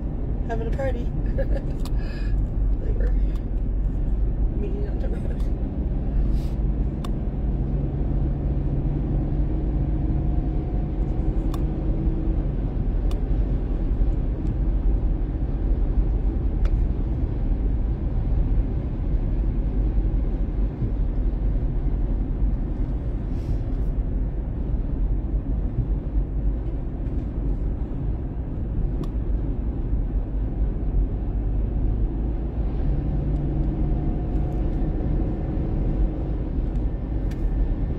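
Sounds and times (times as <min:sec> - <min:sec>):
car driving rumble inside cabin: 0:00.0 - 0:37.9.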